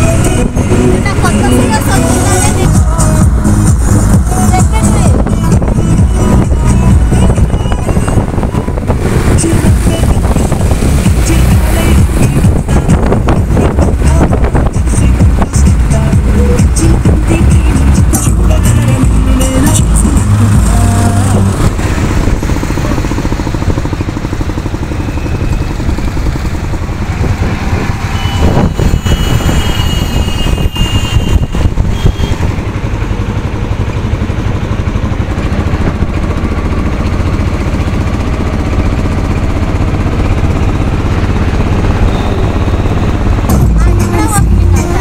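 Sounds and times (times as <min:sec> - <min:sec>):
auto-rickshaw engine rumble: 0:00.0 - 0:45.0.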